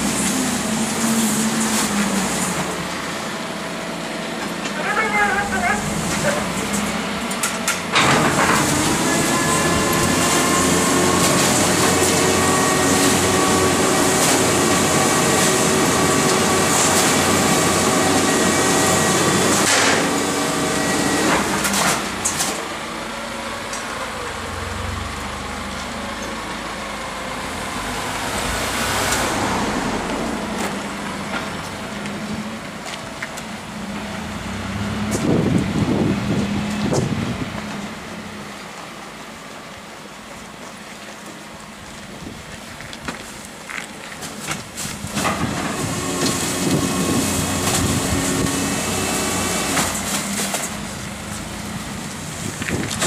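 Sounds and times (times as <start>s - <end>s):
garbage truck packing mechanism whine: 0.0s - 53.0s
truck engine running: 0.0s - 53.0s.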